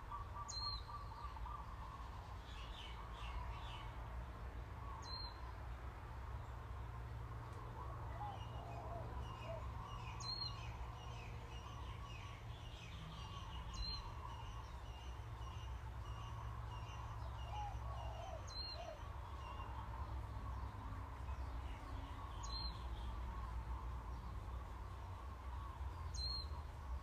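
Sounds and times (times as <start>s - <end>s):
birds chirping and twittering: 0.0s - 5.6s, 6.4s - 27.0s.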